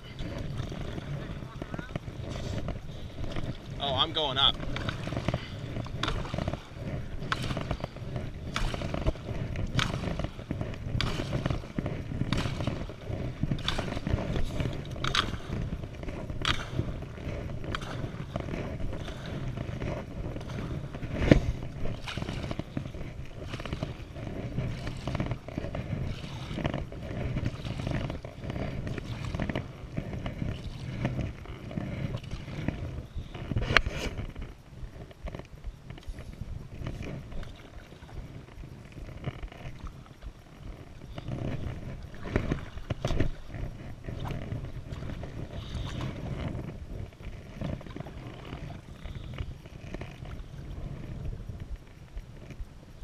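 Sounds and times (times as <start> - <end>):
paddle strokes splashing: 0.0 - 53.0.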